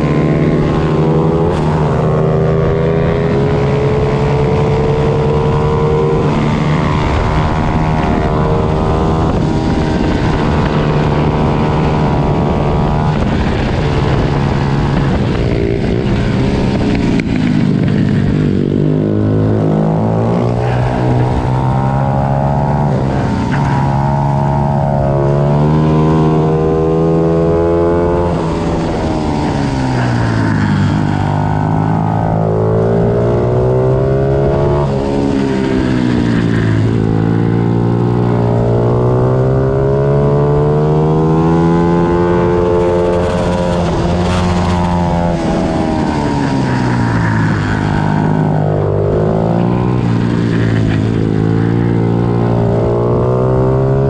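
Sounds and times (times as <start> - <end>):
pit bike engines racing: 0.0 - 54.0.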